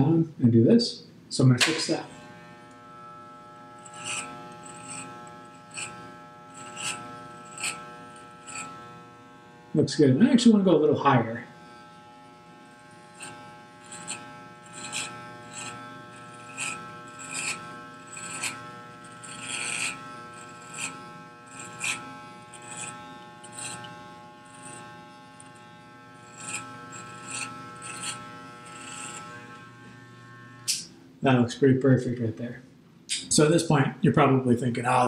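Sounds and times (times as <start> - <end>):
clippers rasping through hair: 1.6 - 10.5, 11.4 - 31.0
electric hair clippers buzzing: 1.6 - 31.2.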